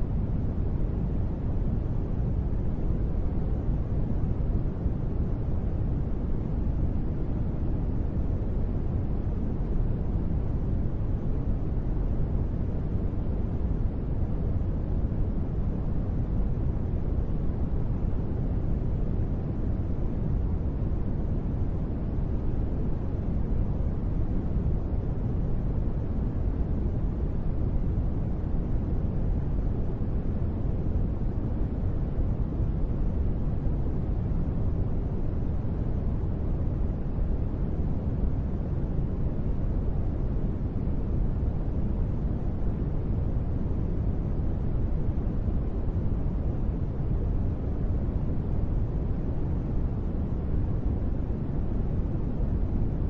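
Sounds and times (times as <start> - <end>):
deep white noise hiss: 0.0 - 53.0.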